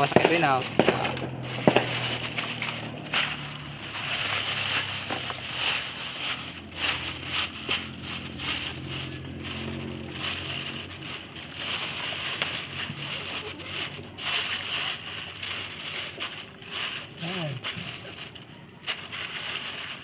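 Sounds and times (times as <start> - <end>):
low engine hum: 0.0 - 20.0
plastic bag crinkling: 0.0 - 20.0.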